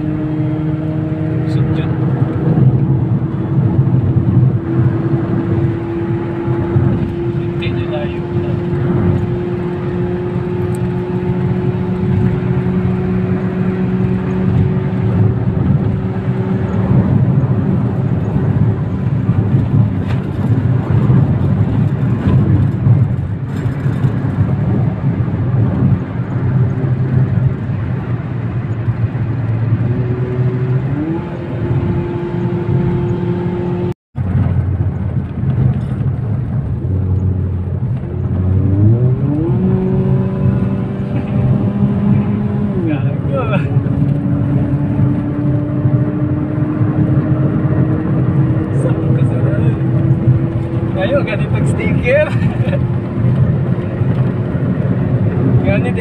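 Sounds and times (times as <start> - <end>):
car cabin road hum: 0.0 - 56.0
car engine revving: 0.0 - 56.0.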